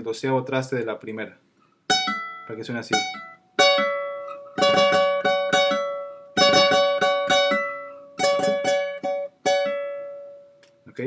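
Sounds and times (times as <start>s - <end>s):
classical guitar plucked notes: 1.9s - 10.8s.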